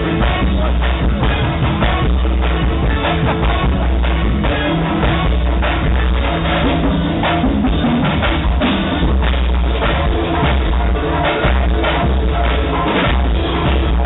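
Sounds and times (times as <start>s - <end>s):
drum kit steady beat: 0.0s - 14.0s
heavy bass: 0.0s - 14.0s
keyboard: 0.0s - 14.0s.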